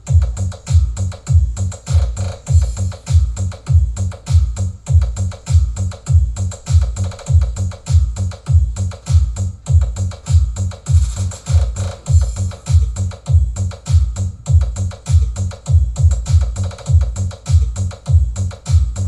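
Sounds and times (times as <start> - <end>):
electronic dance music: 0.0 - 19.0
hi-hat ticks: 0.0 - 19.0
kick drum: 0.0 - 19.0.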